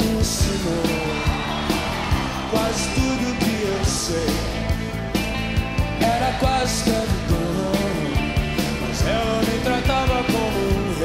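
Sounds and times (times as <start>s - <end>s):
song with sung melody and drums: 0.0s - 11.0s.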